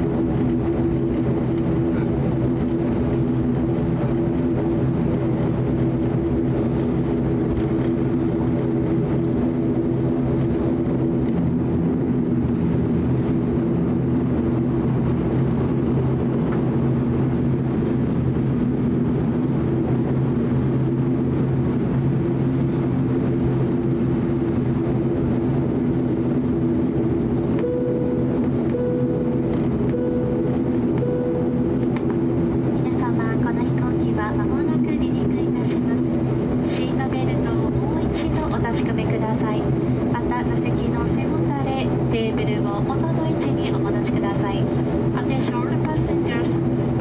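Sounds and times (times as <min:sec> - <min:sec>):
turboprop engines droning: 0:00.0 - 0:47.0.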